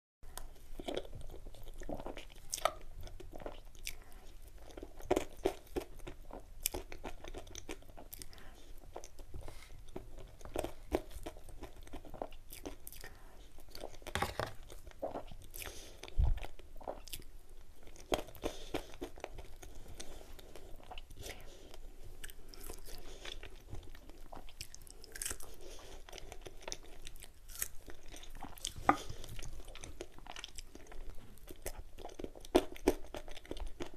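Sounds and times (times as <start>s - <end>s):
chewing and mouth clicks: 0.3s - 33.9s.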